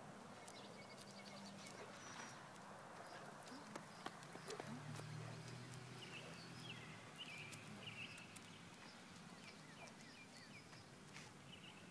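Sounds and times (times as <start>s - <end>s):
small birds chirping faintly: 0.0s - 11.9s.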